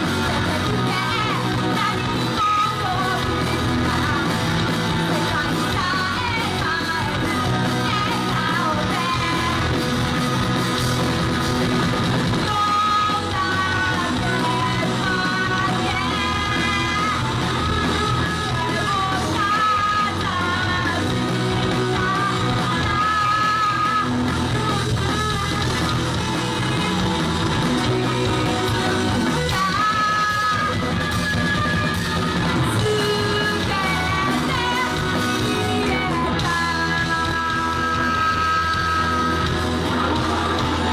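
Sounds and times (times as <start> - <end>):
person singing: 0.0 - 10.6, 12.4 - 40.9
rock band playing: 0.0 - 40.9.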